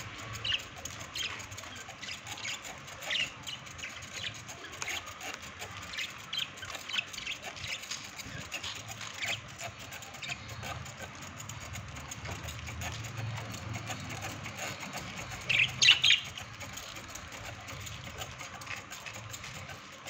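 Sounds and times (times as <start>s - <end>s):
budgerigars chirping: 0.0s - 19.7s
budgerigars squawking: 0.2s - 19.7s.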